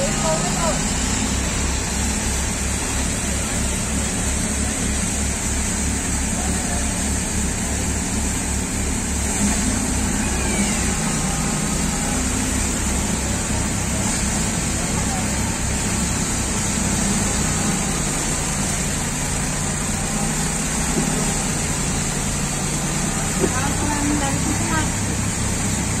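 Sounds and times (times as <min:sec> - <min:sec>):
threshing machine running: 0:00.0 - 0:26.0.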